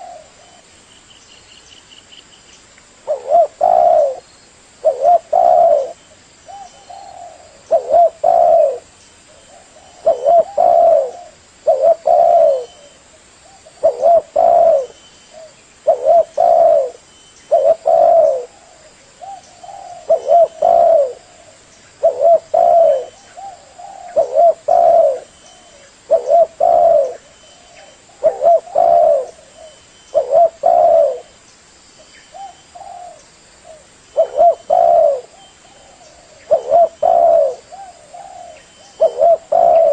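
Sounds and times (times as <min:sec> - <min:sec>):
dove cooing: 0:00.0 - 0:00.7, 0:03.0 - 0:31.4, 0:32.3 - 0:39.9.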